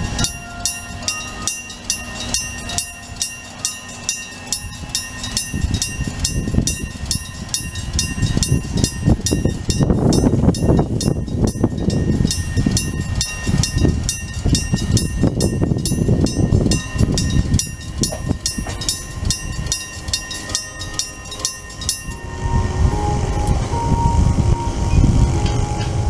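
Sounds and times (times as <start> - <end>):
level crossing bell striking: 0.0 - 26.0
passing train rumble: 0.0 - 26.0.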